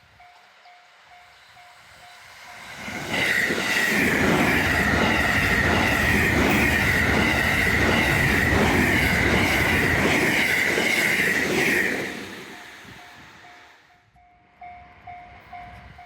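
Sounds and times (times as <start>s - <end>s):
train wheels rumbling on rail: 0.0s - 13.9s.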